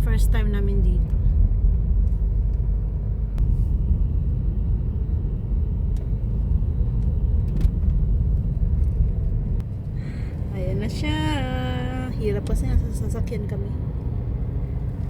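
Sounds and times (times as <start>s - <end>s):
car interior road and engine rumble: 0.0s - 15.0s.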